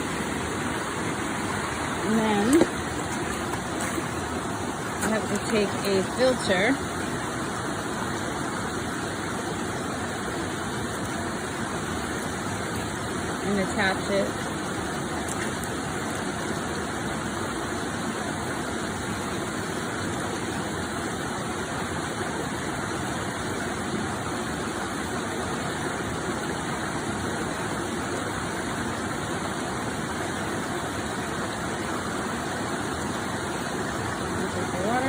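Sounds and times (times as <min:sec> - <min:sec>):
stream water flowing: 0:00.0 - 0:35.0.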